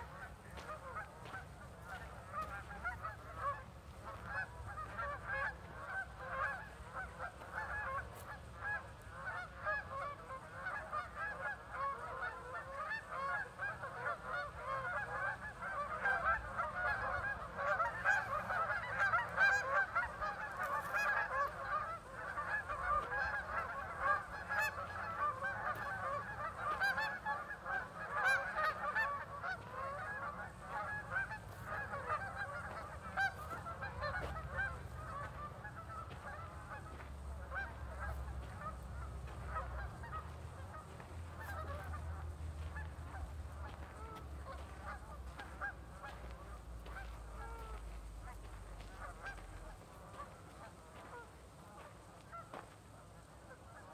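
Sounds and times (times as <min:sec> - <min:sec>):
geese honking: 0:00.0 - 0:53.9.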